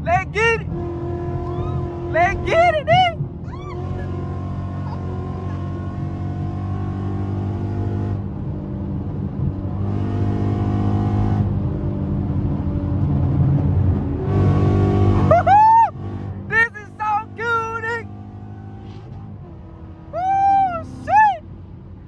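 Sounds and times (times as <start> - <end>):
car engine drone from inside cabin: 0.0 - 22.0.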